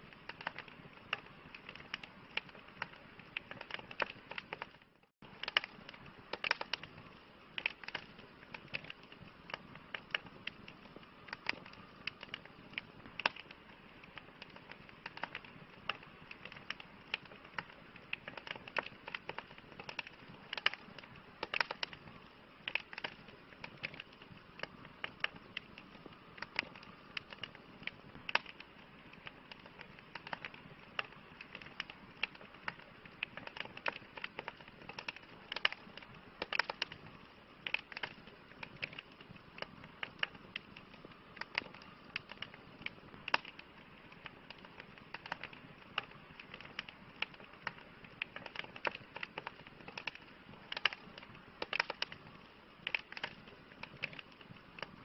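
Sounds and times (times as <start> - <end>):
campfire crackling and popping: 0.0 - 55.0
hiss of flames: 0.0 - 55.0.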